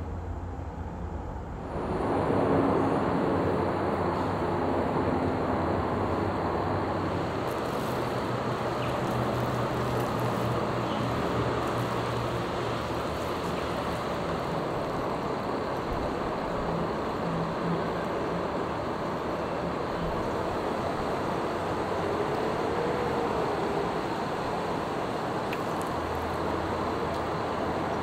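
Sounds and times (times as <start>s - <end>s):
distant road traffic hum: 0.0s - 28.0s.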